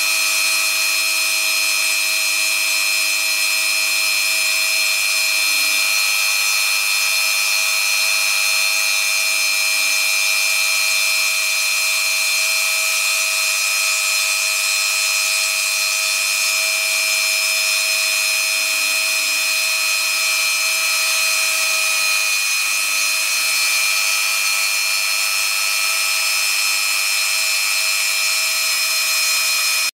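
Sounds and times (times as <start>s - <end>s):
rotary tool whining: 0.0s - 29.9s.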